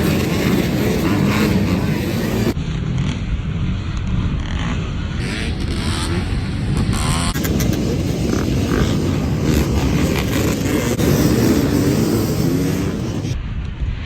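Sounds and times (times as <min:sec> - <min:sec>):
dirt bike engines revving: 0:00.0 - 0:13.4.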